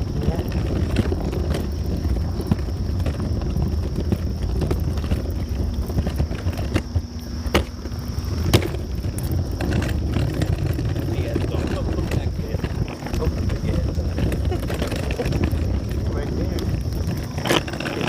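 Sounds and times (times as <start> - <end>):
steady low rumble: 0.0 - 18.0
walking footsteps: 0.0 - 18.0.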